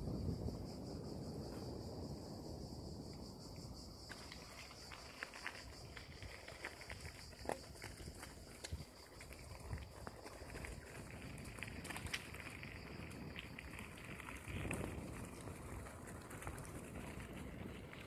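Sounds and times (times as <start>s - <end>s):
bicycle tyres on gravel: 0.8s - 18.0s.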